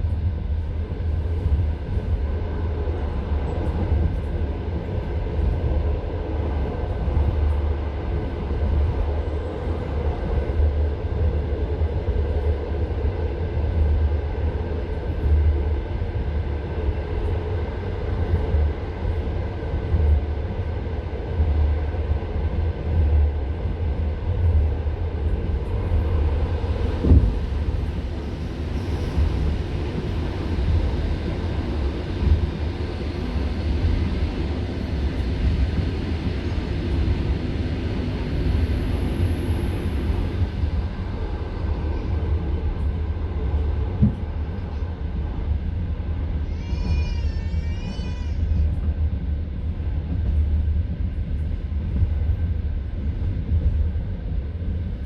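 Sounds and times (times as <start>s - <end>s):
train carriage rumbling: 0.0s - 55.0s.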